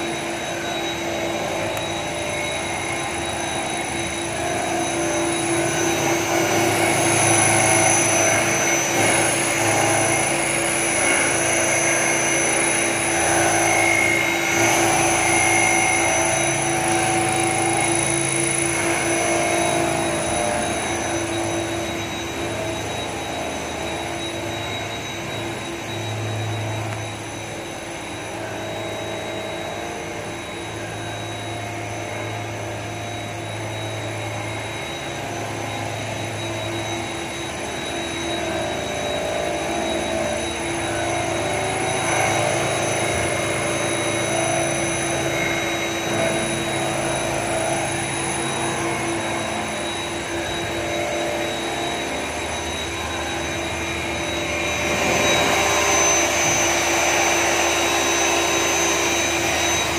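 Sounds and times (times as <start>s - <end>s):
high-pitched machine whine: 0.0s - 59.9s
milling machine whirring: 0.0s - 59.9s.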